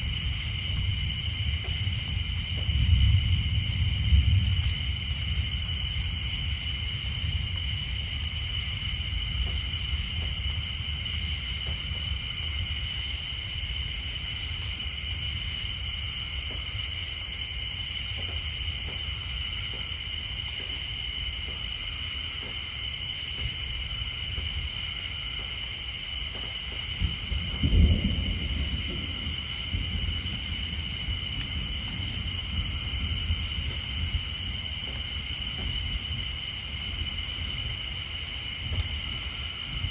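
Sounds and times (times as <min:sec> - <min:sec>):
distant thunder rumble: 0:00.0 - 0:20.6, 0:21.2 - 0:39.9
tree frogs and insects chorus: 0:00.0 - 0:39.9.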